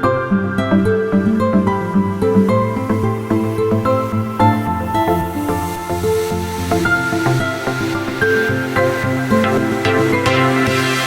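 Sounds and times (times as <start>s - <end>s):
calm new-age music: 0.0s - 11.0s.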